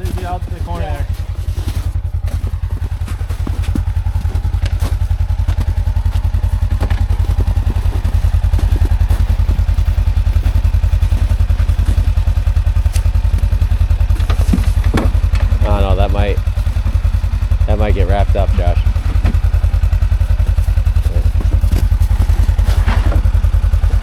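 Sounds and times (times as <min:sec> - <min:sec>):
knocks and rattles: 0:00.0 - 0:24.0
utv engine running at low revs: 0:00.0 - 0:24.0.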